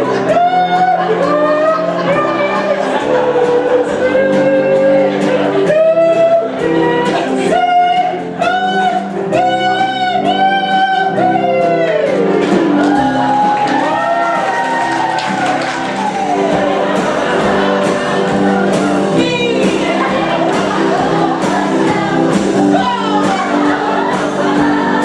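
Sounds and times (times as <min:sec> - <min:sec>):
instrumental accompaniment: 0:00.0 - 0:25.0.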